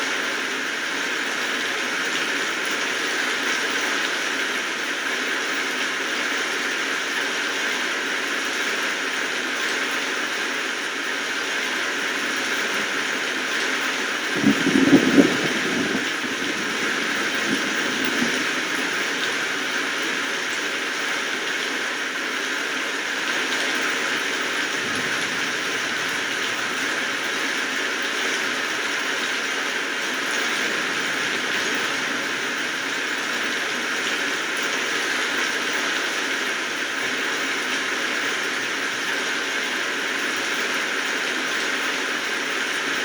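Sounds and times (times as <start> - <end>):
steady rainfall: 0.0 - 43.0.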